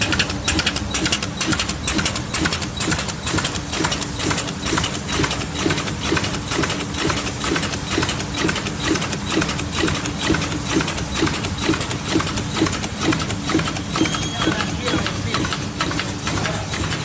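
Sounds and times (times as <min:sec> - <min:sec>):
bottle-cap machine humming: 0:00.0 - 0:17.0
mechanical clacking: 0:00.0 - 0:17.0.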